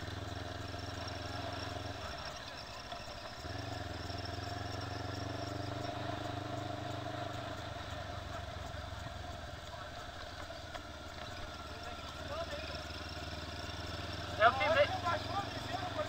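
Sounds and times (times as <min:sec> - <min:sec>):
motorcycle engine drone: 0:00.0 - 0:16.0
road and wind noise: 0:00.0 - 0:16.0.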